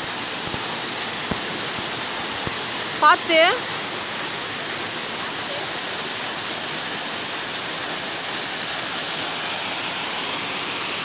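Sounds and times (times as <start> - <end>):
waterfall over rocks: 0.0 - 11.0.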